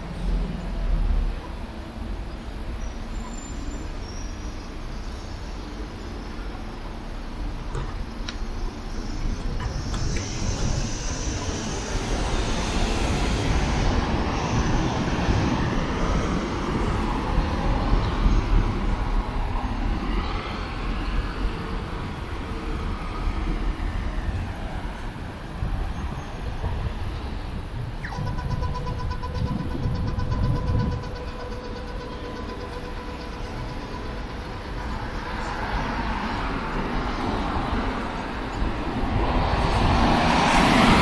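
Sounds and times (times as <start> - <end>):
cars driving past: 0.0 - 41.0
traffic rumble: 0.0 - 41.0.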